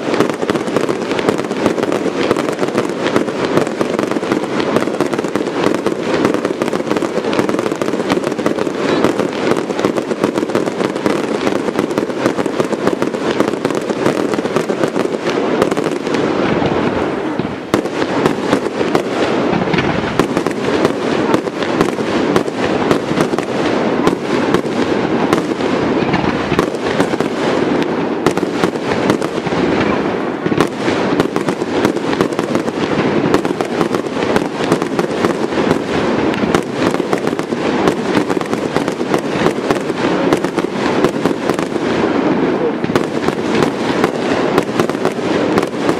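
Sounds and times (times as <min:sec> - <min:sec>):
fireworks crackling and popping: 0:00.0 - 0:45.9.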